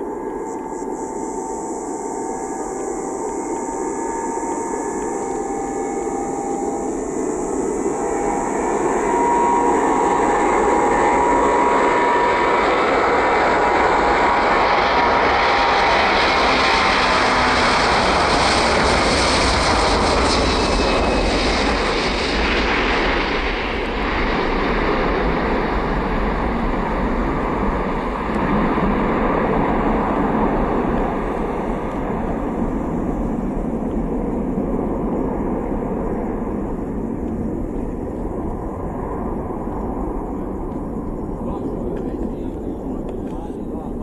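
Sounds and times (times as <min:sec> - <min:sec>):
jet engines roaring at takeoff: 0:00.0 - 0:44.0.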